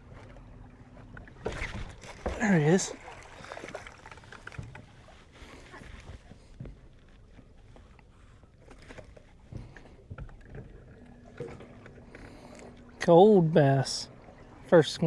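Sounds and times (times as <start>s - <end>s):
knocks and handling in a boat: 0.0s - 15.0s.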